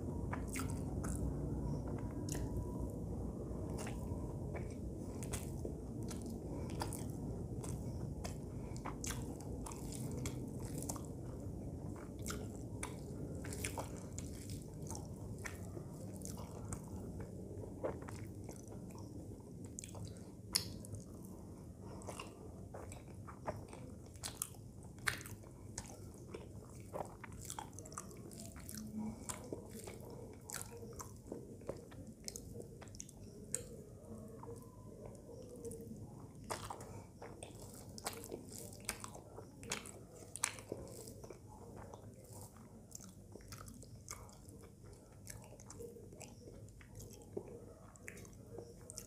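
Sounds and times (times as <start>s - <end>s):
person chewing food: 0.0s - 49.0s.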